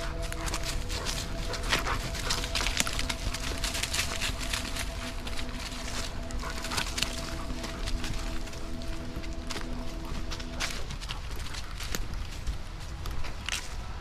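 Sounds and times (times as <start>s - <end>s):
background music: 0.0s - 14.0s
footsteps crunching through dry leaves: 0.0s - 14.0s.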